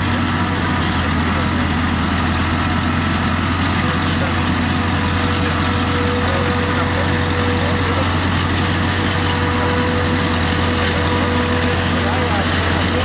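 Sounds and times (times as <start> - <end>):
engines droning: 0.0 - 13.0.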